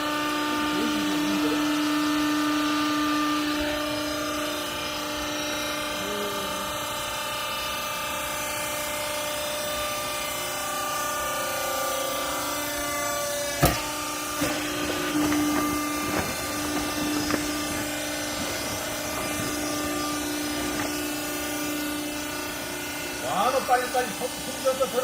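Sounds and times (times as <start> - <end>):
hydraulic press whining: 0.0 - 25.0.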